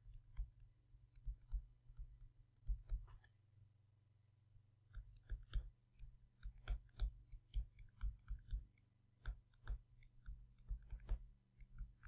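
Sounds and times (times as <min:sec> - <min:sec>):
stylus tapping on tablet screen: 0:00.0 - 0:03.4, 0:04.8 - 0:12.0.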